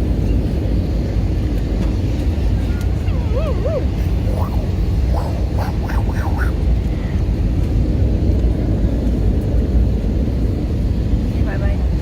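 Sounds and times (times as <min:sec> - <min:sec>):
airliner rumble in cabin: 0:00.0 - 0:12.0.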